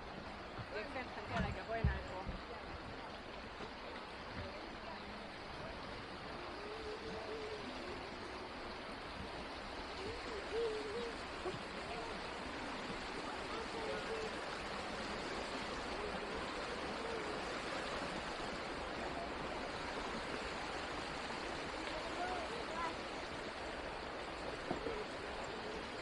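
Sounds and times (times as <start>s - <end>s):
distant voices: 0.0s - 26.0s
stream rushing over rocks: 0.0s - 26.0s.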